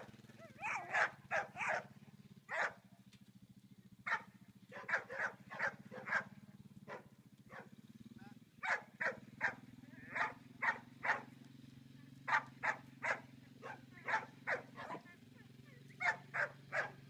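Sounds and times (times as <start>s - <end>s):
dog barking: 0.0s - 2.9s, 4.0s - 7.7s, 8.6s - 11.3s, 12.2s - 17.0s.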